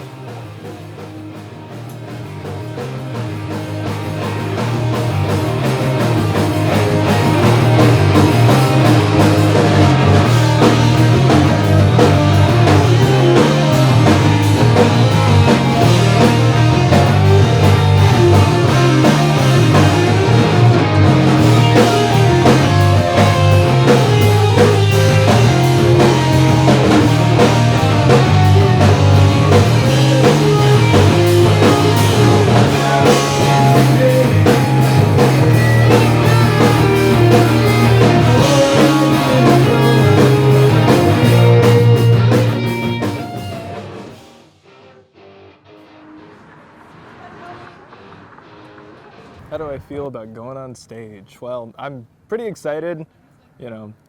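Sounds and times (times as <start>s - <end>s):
rock band playing: 0.0s - 49.7s.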